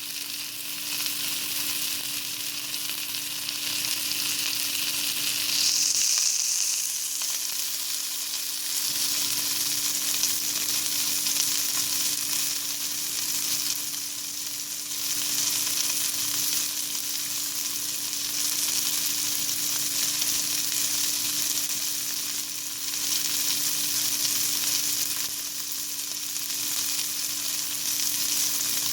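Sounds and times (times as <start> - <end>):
meat sizzling in hot oil: 0.0 - 28.9.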